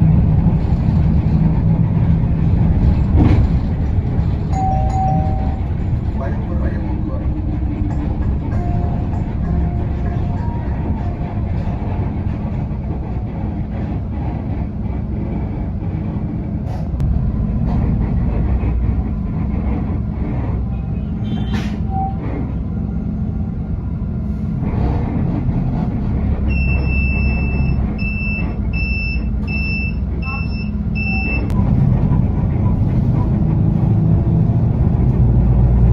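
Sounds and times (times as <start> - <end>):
bus engine rumble: 0.0 - 35.9.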